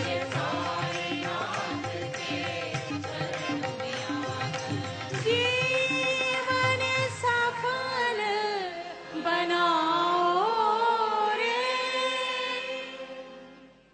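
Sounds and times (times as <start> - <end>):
women singing devotional song: 0.0 - 13.7.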